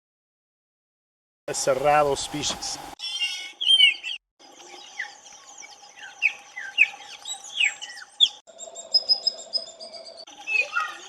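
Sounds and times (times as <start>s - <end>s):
birds chirping: 1.5s - 11.0s.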